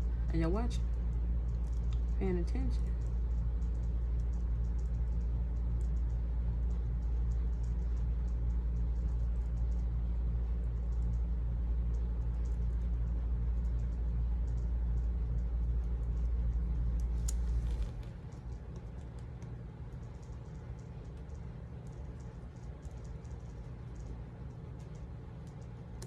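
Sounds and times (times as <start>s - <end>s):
low pulsing hum: 0.0s - 26.0s.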